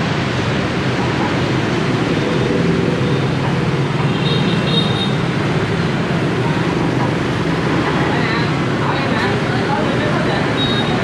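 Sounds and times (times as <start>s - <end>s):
motorbikes and cars passing: 0.0s - 11.0s.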